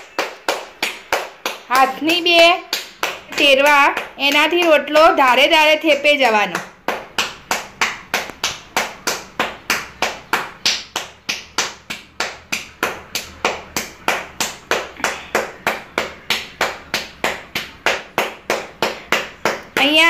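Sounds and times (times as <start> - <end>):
hands slapping dough: 0.0 - 20.0.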